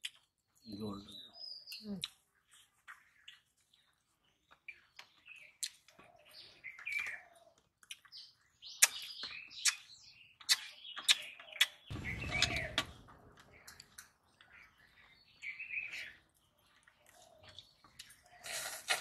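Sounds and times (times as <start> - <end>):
birds chirping: 0.5 - 18.8.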